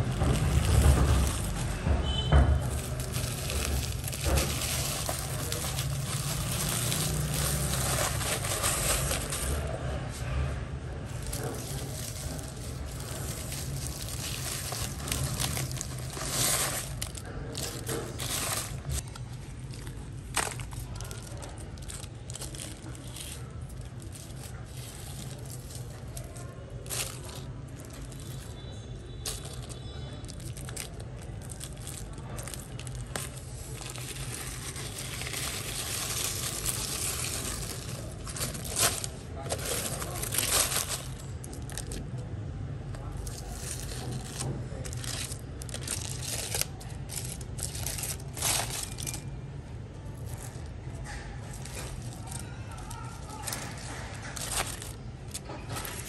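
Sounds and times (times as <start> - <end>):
salt crust crunching: 0.0 - 9.9, 11.1 - 49.4, 50.1 - 56.0
aluminium foil crinkling and tearing: 0.0 - 56.0.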